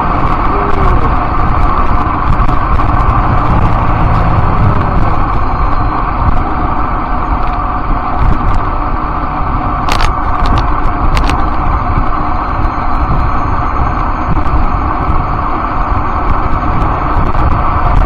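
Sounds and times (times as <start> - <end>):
road rumble: 0.0 - 18.0
wind: 0.0 - 18.0.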